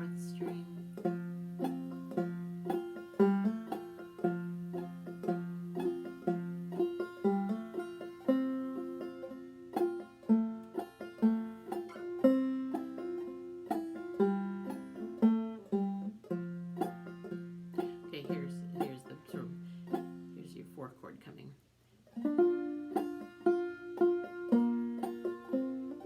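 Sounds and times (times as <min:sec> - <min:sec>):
solo banjo melody: 0:00.0 - 0:26.0.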